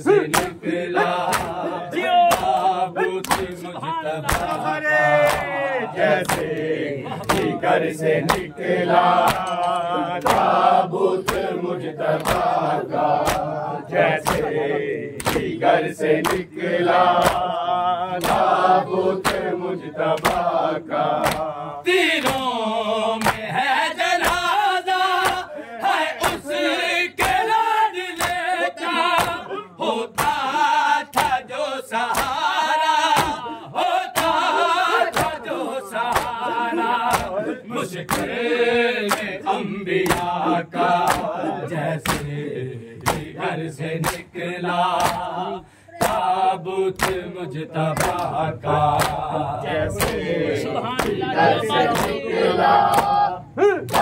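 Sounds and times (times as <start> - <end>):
men chanting a lament: 0.0 - 54.0.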